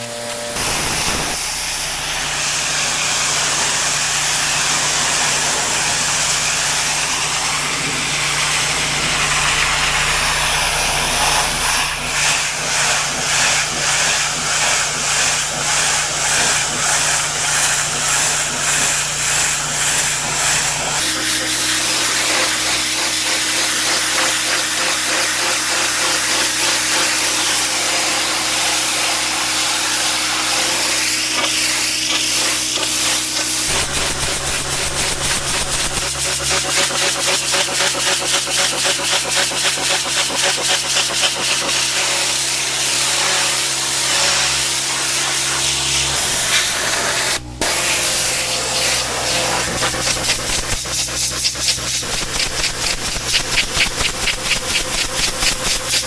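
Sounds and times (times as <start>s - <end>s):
pressure washer machine hum: 0.0s - 56.0s
pressure washer spray hiss: 0.0s - 56.0s.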